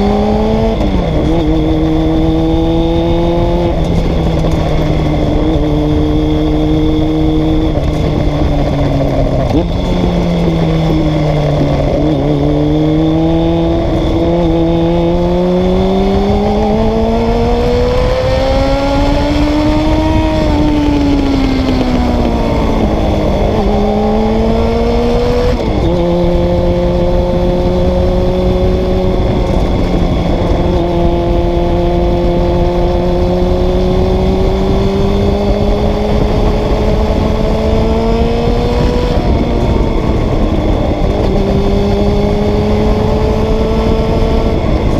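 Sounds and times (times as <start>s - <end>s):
motorcycle engine accelerating: 0.0s - 44.9s
wind noise rushing: 0.0s - 44.9s.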